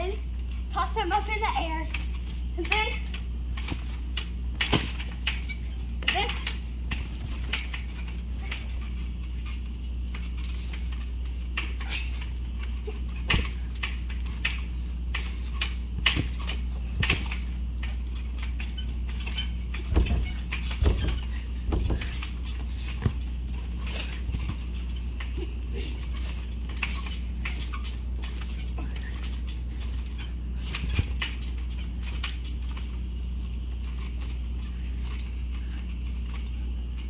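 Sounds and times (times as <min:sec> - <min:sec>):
child bouncing on trampoline: 0:00.0 - 0:37.0.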